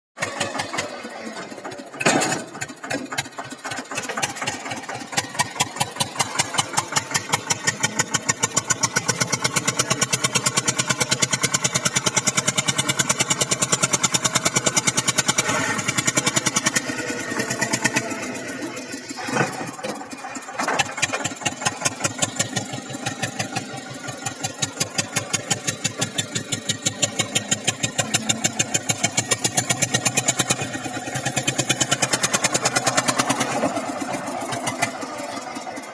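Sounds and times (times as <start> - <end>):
tractor diesel engine chugging: 0.2 - 35.9.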